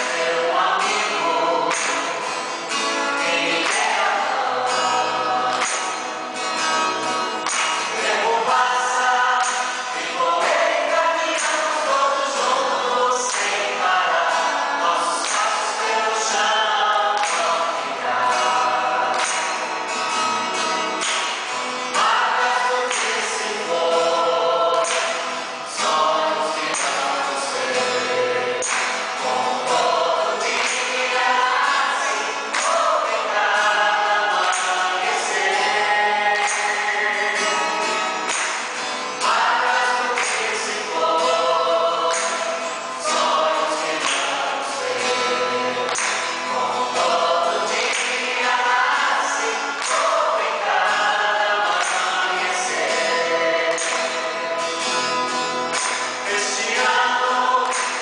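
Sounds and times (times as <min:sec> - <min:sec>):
choir singing a hymn: 0:00.0 - 0:20.4, 0:21.0 - 0:58.0
acoustic guitar accompaniment: 0:00.0 - 0:58.0
people clapping in time: 0:00.0 - 0:58.0.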